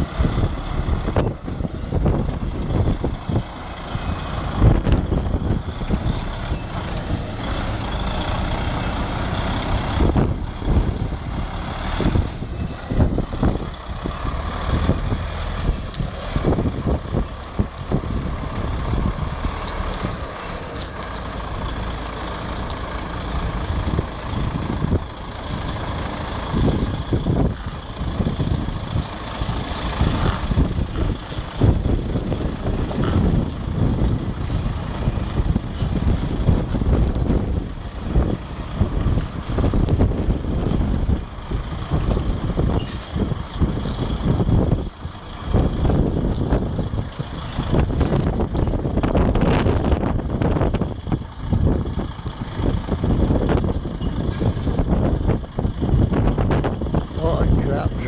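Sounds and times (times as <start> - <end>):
lorry diesel engine running: 0.0 - 58.0.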